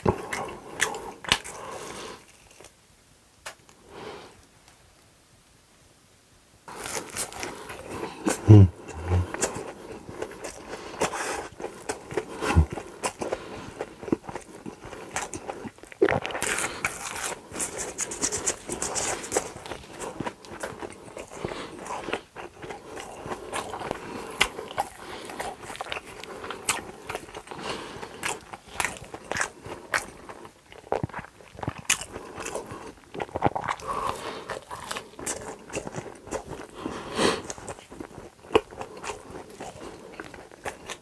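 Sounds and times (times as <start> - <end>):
crunchy chewing: 0.0 - 2.8, 6.7 - 41.0.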